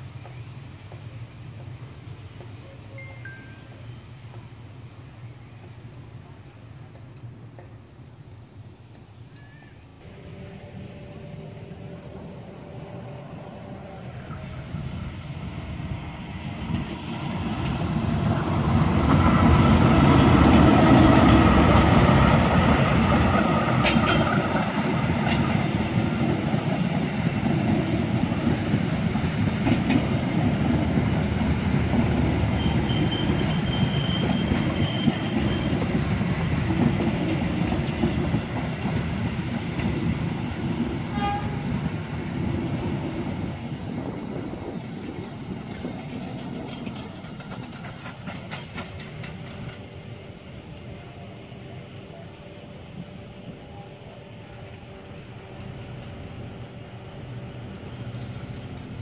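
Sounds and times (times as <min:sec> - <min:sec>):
train clanks: 0:00.0 - 0:08.2, 0:11.2 - 0:59.0
train wheels rumbling: 0:00.0 - 0:59.0.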